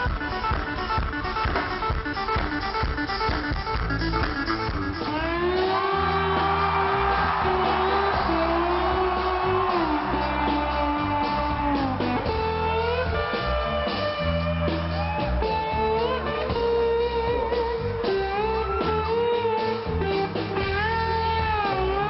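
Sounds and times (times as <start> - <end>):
bass and drums: 0.0 - 22.0
electric guitar lead bending notes: 0.0 - 22.0.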